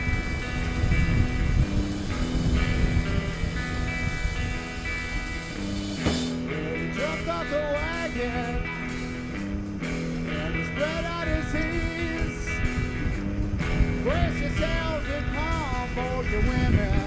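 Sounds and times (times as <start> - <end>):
rock music with guitar: 0.0 - 17.0.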